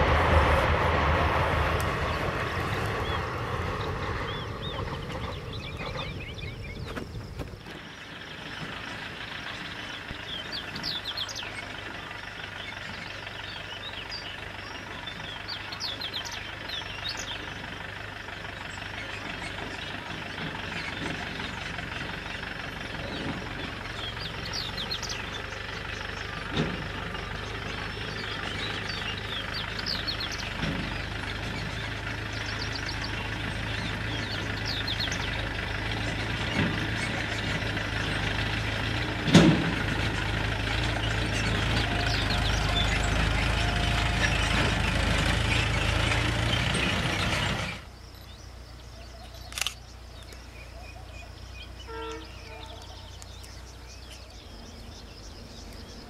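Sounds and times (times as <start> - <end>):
birds chirping: 0.0 - 56.0
tractor engine running: 0.0 - 56.0.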